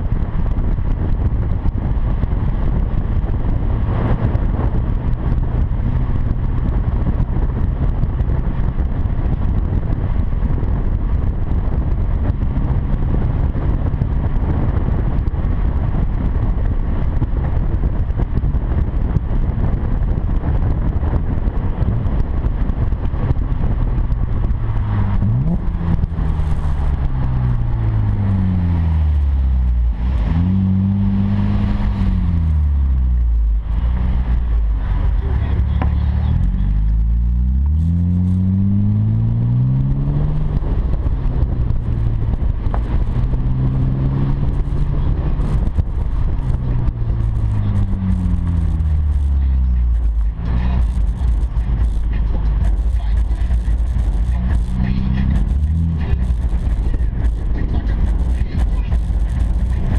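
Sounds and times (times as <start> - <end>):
car engine drone: 0.0 - 59.9
rushing road noise: 0.0 - 59.9.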